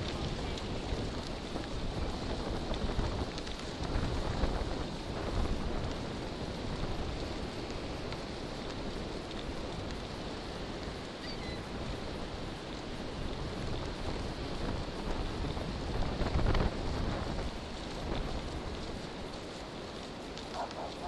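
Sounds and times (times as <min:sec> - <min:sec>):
surf washing on shore: 0:00.0 - 0:21.0
wind buffeting microphone: 0:00.0 - 0:21.0.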